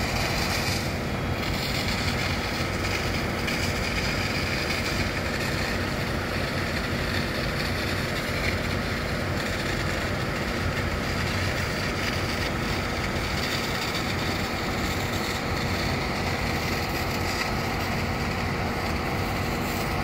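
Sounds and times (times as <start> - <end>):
fire engine diesel engines running: 0.0 - 20.0
hiss: 0.0 - 20.0.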